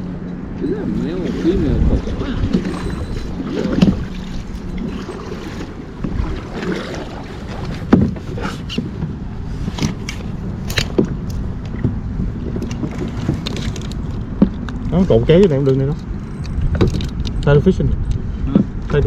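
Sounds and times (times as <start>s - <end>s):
water around a boat: 0.0s - 19.0s
wind rumble on microphone: 0.0s - 19.0s.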